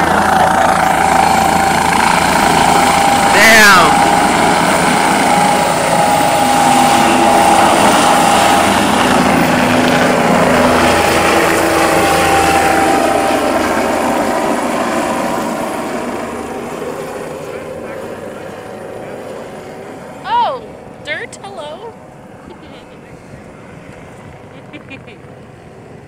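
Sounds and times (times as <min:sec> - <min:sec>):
helicopter rotor noise: 0:00.0 - 0:26.0
turbine whine: 0:00.0 - 0:26.0.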